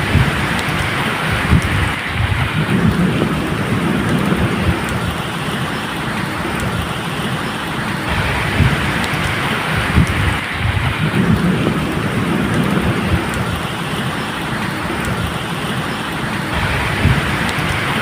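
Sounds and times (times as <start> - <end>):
low thunder rumble: 0.0 - 7.3, 8.1 - 15.9, 16.5 - 18.0
steady rain: 0.0 - 18.0.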